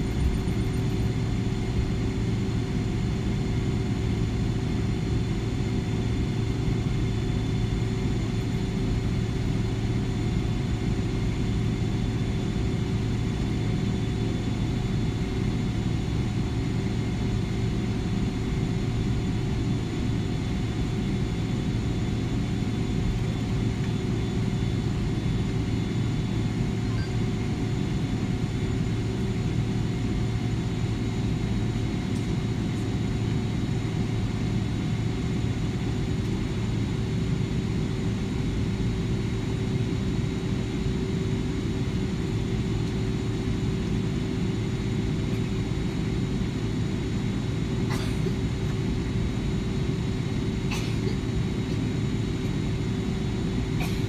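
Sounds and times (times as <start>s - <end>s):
airliner cabin rumble: 0.0s - 54.0s
steady humming tones: 0.0s - 54.0s.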